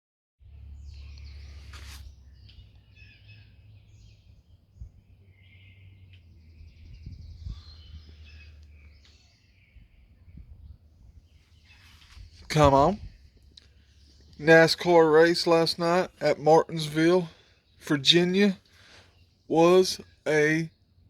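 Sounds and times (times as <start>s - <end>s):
birds chirping and singing: 0.5s - 21.0s.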